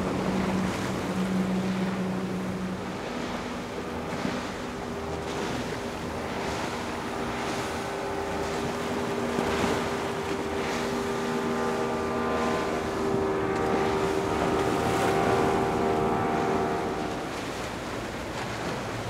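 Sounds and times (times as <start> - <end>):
outboard engine drone: 0.0 - 19.0
water and waves washing: 0.0 - 19.0.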